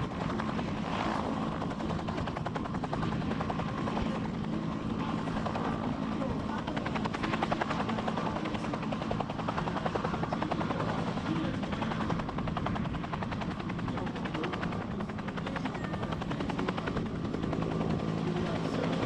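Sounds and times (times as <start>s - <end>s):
helicopter rotor chop: 0.0s - 19.0s.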